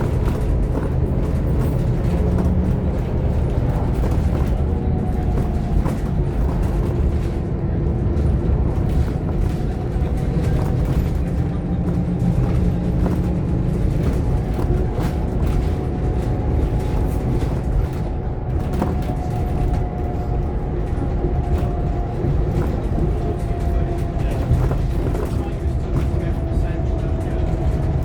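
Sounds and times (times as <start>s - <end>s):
bus engine droning: 0.0s - 28.0s
light body rattles: 0.0s - 28.0s.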